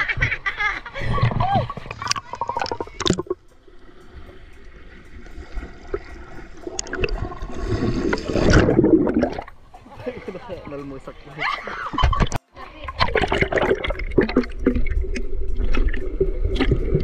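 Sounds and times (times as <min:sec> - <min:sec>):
water sloshing and gurgling: 0:00.9 - 0:17.0.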